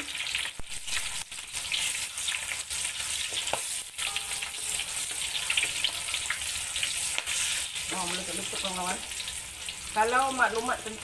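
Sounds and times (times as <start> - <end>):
chillies sizzling in hot oil: 0.0 - 11.0
spatula stirring in wok: 0.8 - 9.9.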